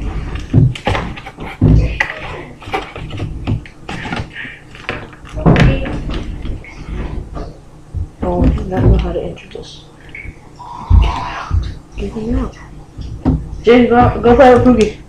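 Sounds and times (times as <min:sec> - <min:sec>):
heavy thumps: 0:00.0 - 0:04.3, 0:05.4 - 0:09.3, 0:10.2 - 0:14.9.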